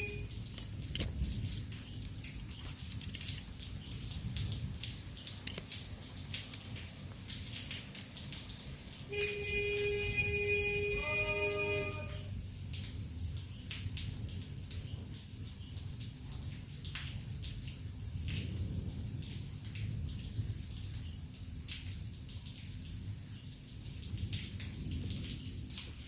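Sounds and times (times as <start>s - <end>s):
rain falling steadily: 0.0s - 26.0s
raindrops ticking on a surface: 0.0s - 26.0s.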